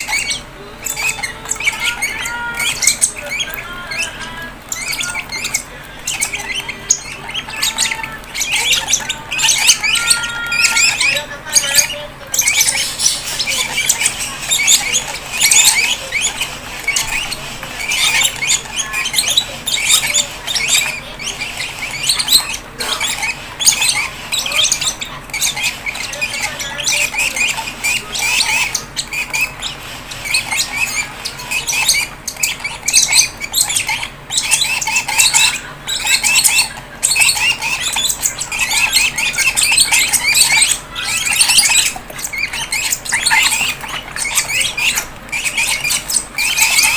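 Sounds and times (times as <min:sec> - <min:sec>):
bird chicks squawking begging calls: 0:00.0 - 0:46.9.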